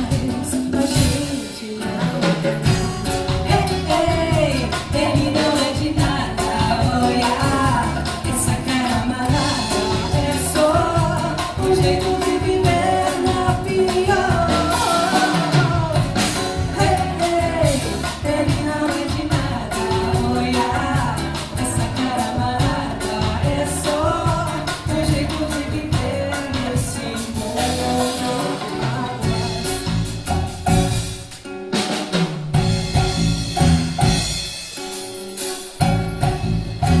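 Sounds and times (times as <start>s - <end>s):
person singing: 0.0s - 30.3s
band playing: 0.0s - 37.0s.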